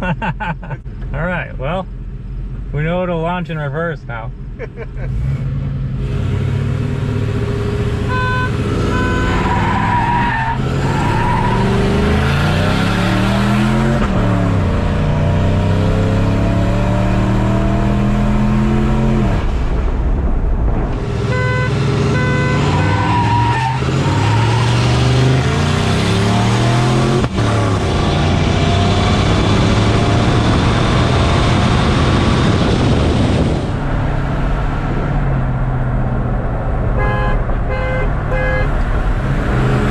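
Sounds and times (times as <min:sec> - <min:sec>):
truck engine at full throttle: 0:04.9 - 0:36.9.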